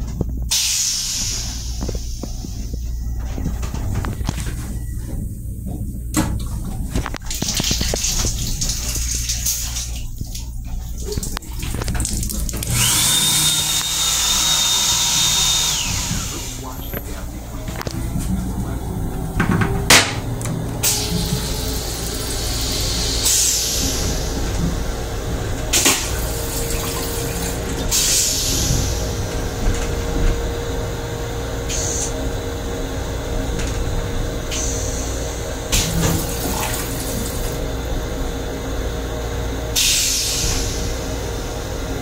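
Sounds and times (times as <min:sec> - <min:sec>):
railcar rumble and hum: 0:00.0 - 0:42.0
toilet flush water spurts: 0:00.0 - 0:42.0.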